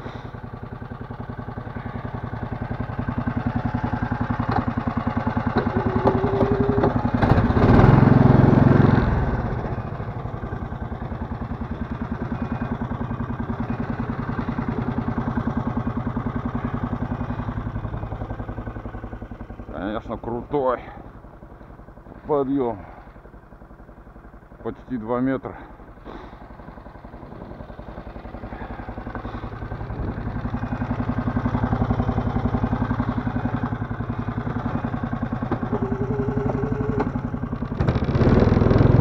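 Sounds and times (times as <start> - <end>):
snowmobile engine running: 0.0 - 21.1, 24.6 - 39.0.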